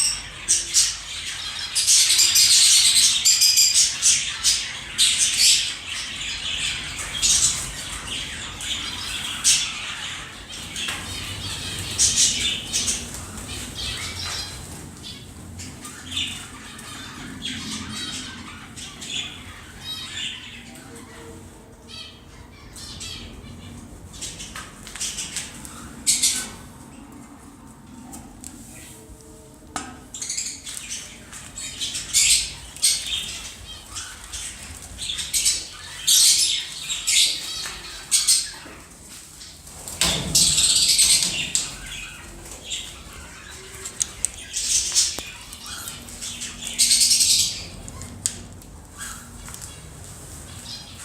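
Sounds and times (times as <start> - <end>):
birds squawking: 0.0 - 26.9, 30.1 - 39.1, 40.1 - 51.0.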